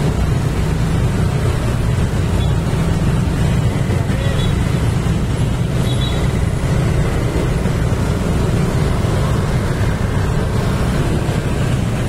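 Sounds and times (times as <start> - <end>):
motor scooter engines rumbling: 0.0 - 12.0
road noise: 0.0 - 12.0.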